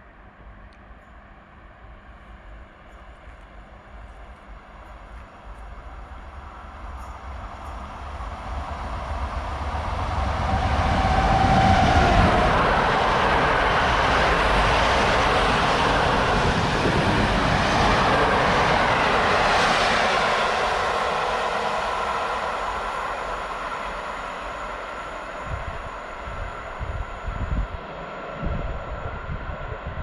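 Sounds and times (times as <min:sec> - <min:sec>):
passenger train running past: 0:00.0 - 0:30.0.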